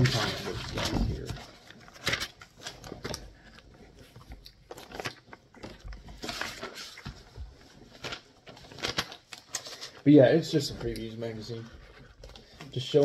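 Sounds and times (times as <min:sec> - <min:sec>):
magazine pages rustling: 0:00.0 - 0:13.0.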